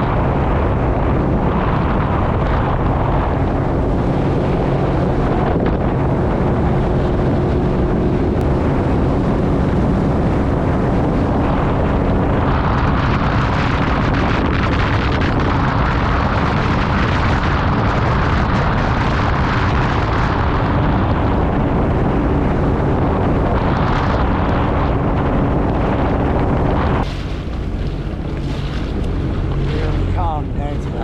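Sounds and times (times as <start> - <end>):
jet ski engine drone: 0.0 - 31.0
water noise: 0.0 - 31.0
wind rush on microphone: 0.0 - 31.0.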